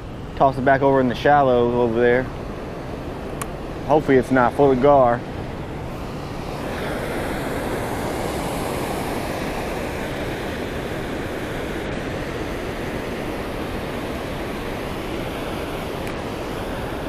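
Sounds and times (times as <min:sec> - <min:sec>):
river water rushing over a weir: 0:02.4 - 0:17.0.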